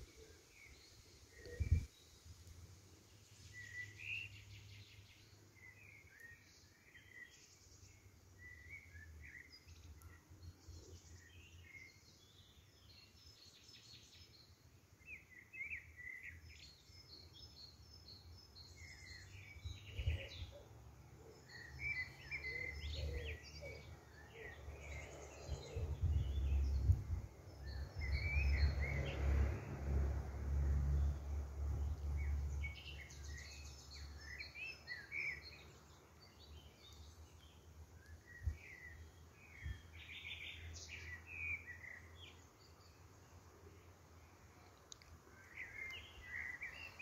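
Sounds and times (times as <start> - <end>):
songbirds chirping and singing: 0.0 - 29.8, 30.9 - 47.0.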